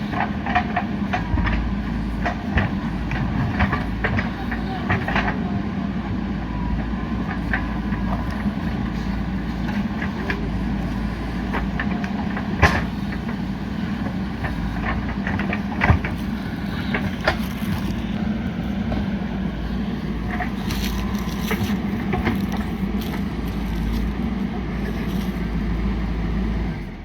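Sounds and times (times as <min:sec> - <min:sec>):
backhoe diesel engine running: 0:00.0 - 0:27.0.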